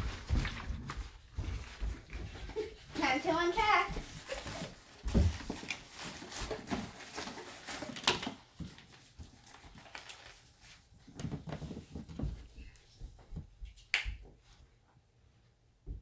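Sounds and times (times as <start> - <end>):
objects rustling and knocking: 0.0 - 14.6.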